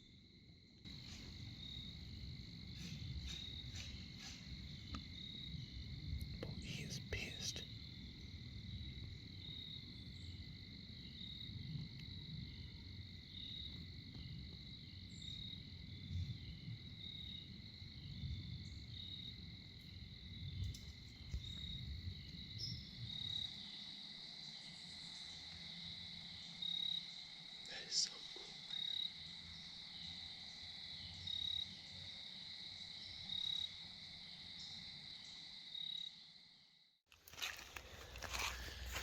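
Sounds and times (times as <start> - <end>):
insects chirping: 0.0 - 39.0.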